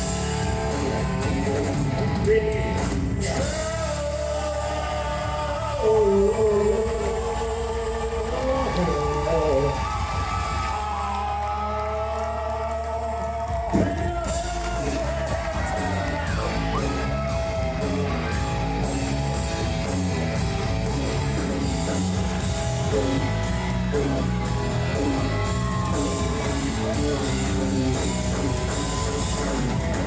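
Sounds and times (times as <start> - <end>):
live country-rock band: 0.0 - 30.0.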